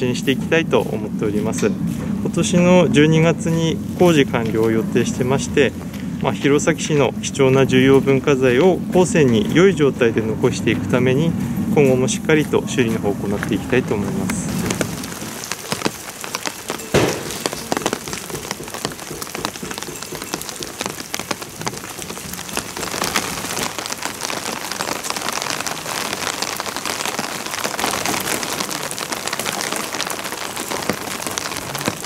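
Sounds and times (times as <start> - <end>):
rain pattering on hard surfaces: 0.0 - 32.0.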